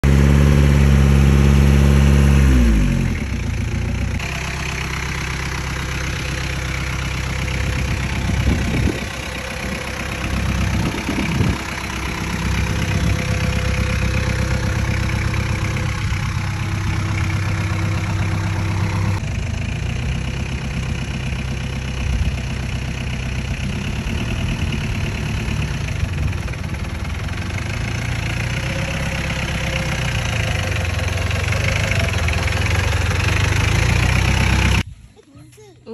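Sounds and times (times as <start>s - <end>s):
engine running at low revs: 0.0s - 34.9s.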